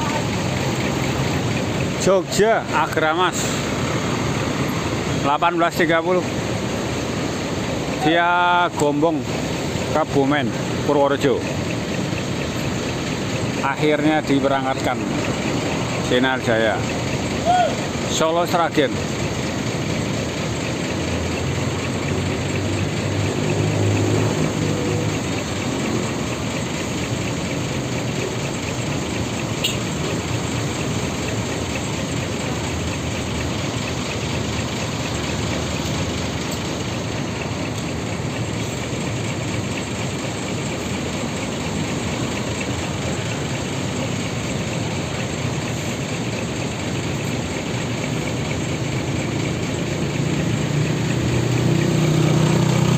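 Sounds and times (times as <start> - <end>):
diesel engine rumble: 0.0 - 52.9.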